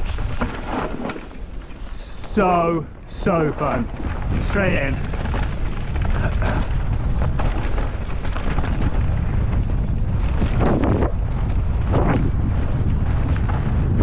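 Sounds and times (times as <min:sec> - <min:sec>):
bike knocking and rattling: 0:00.0 - 0:14.0
tyres rumbling on dirt trail: 0:00.0 - 0:14.0
wind buffeting microphone: 0:00.0 - 0:14.0.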